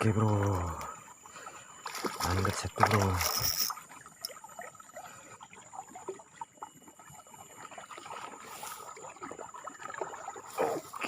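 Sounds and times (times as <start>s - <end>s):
water trickling and dripping: 0.0s - 11.0s.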